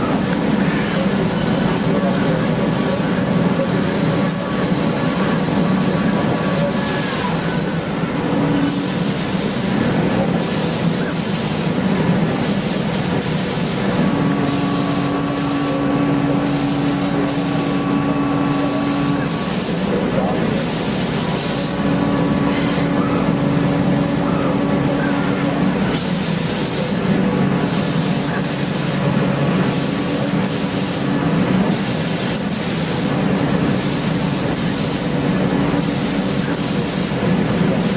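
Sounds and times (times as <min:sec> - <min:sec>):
factory machinery humming: 0:00.0 - 0:37.9.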